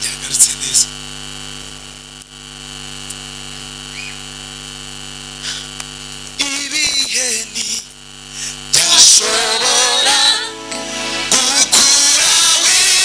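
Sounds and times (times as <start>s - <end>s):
electrical mains hum: 0.0s - 13.0s
high steady whine: 0.0s - 13.0s.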